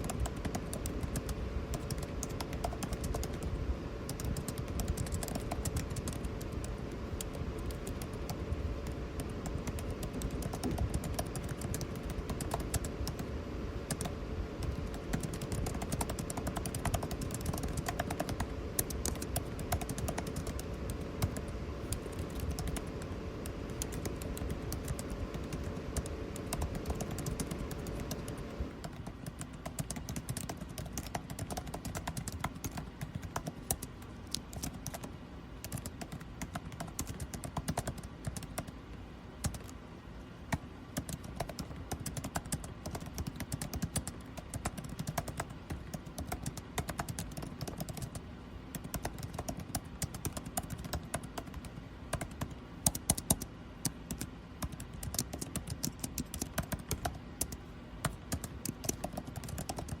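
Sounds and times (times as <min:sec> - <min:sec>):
keyboard typing clicks: 0:00.0 - 0:38.8, 0:39.4 - 0:39.8, 0:40.5 - 1:00.0
air conditioning hum: 0:00.0 - 1:00.0.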